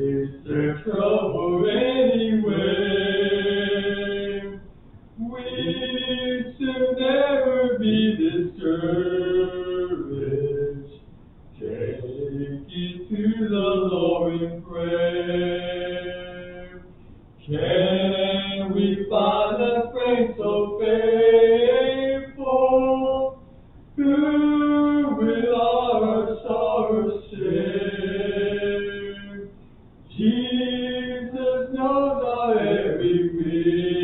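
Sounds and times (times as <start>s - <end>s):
voices singing long sliding phrases: 0.0s - 11.0s, 11.6s - 23.4s, 24.0s - 29.5s, 30.1s - 34.0s.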